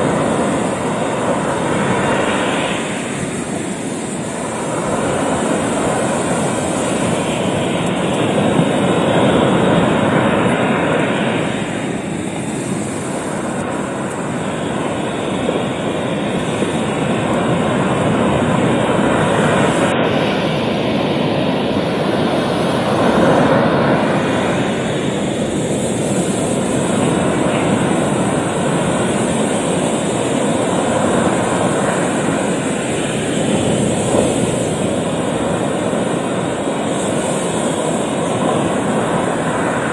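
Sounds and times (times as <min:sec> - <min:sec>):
surf breaking on rocky shore: 0:00.0 - 0:39.9.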